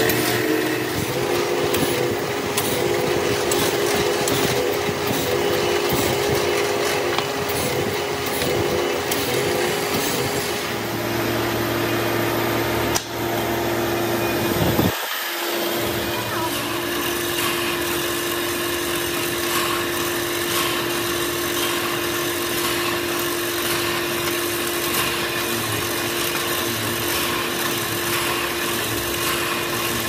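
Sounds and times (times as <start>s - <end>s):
drill bit grinding brake lining: 0.0s - 10.9s, 14.8s - 30.0s
drill press motor running: 0.0s - 30.0s.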